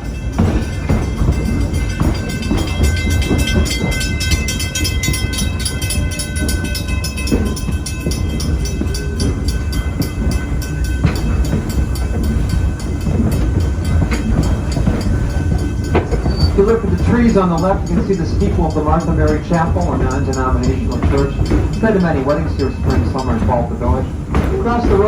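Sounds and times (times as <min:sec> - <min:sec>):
train rumble: 0:00.0 - 0:25.0
train wheels clicking over rails: 0:00.0 - 0:25.0.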